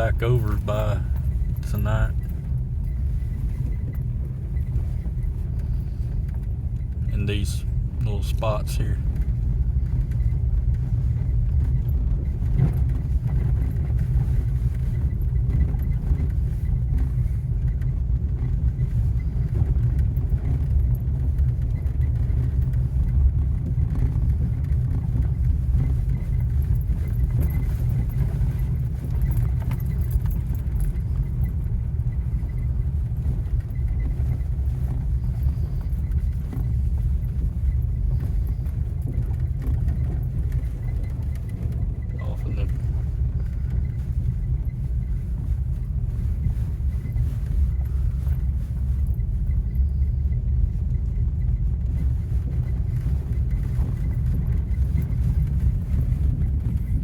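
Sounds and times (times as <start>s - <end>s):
engine and tyres rumbling: 0.0s - 57.0s.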